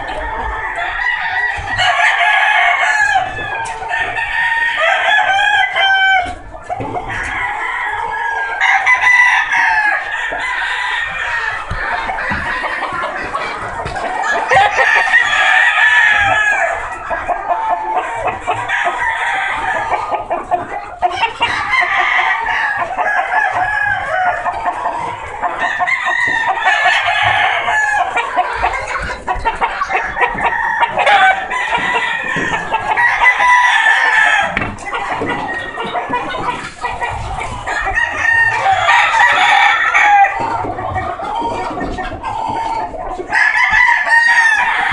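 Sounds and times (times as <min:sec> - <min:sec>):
chickens clucking: 0:00.0 - 0:44.9
roosters crowing: 0:00.0 - 0:44.9.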